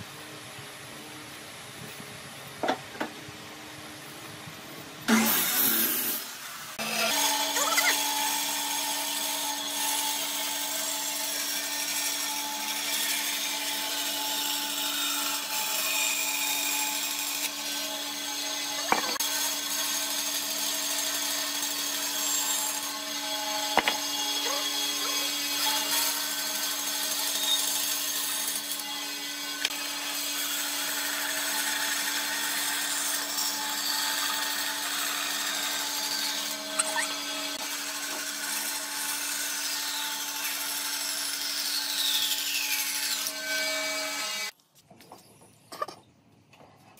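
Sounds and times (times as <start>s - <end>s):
bandsaw motor hum: 5.1s - 44.5s
saw blade cutting wood: 5.1s - 44.5s.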